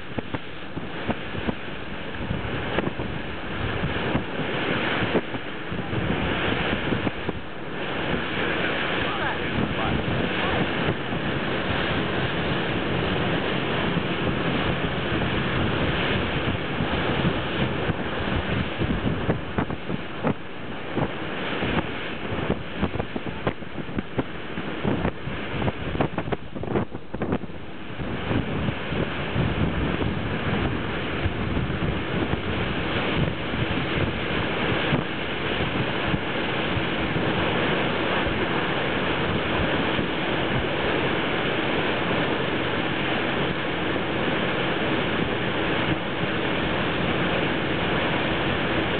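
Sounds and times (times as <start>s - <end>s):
water rushing in boat wake: 0.0s - 48.9s
wind buffeting microphone: 0.0s - 48.9s.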